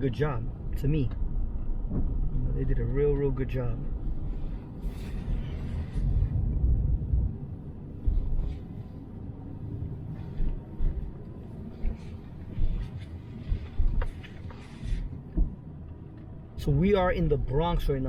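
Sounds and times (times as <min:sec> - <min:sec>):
minivan cabin rumble: 0:00.0 - 0:18.0.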